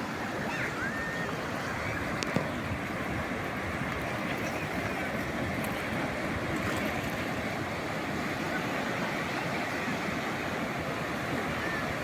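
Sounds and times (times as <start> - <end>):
sea waves washing ashore: 0.0 - 12.0.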